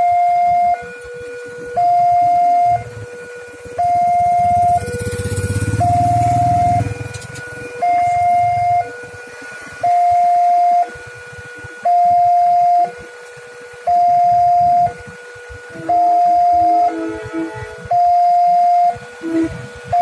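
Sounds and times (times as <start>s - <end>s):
level crossing two-tone alarm: 0.0s - 20.0s
vehicle engine rumble: 0.0s - 20.0s.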